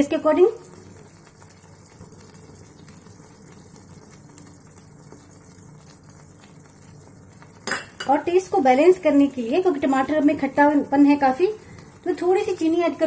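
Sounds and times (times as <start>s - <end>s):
sauce sizzling and bubbling in pan: 0.0s - 13.0s.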